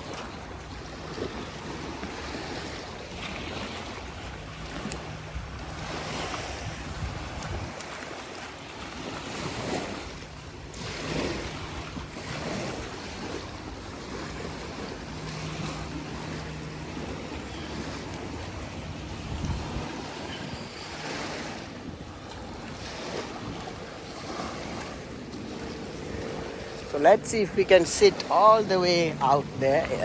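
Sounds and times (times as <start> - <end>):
lake waves washing on shore: 0.0 - 30.0
wind rumbling on microphone: 0.0 - 30.0.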